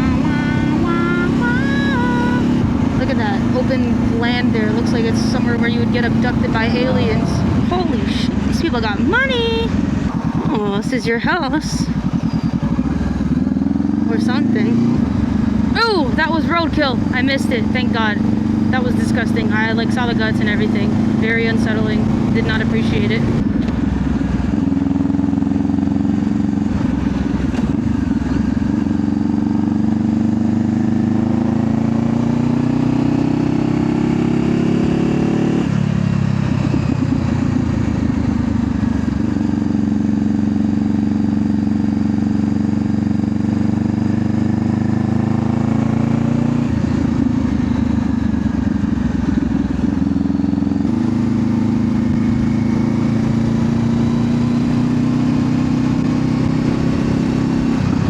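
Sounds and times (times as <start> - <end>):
motorcycle engine under way: 0.0 - 58.0.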